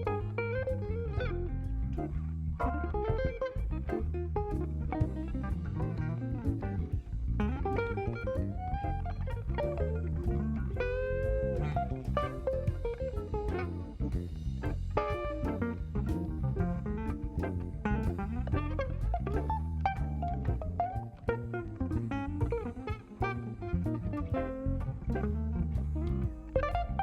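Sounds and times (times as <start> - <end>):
drum kit: 0.0 - 27.0
electric bass: 0.0 - 27.0
electric guitar lead lines: 0.0 - 27.0.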